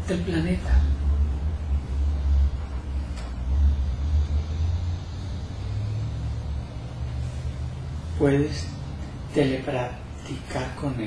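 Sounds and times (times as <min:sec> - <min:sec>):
faint steady hum: 0:00.0 - 0:11.0
low uneven rumble: 0:00.0 - 0:11.0.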